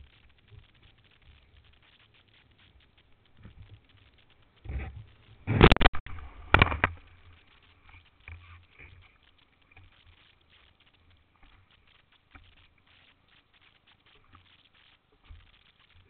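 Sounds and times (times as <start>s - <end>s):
faint water patters and sloshes: 0.0s - 16.0s.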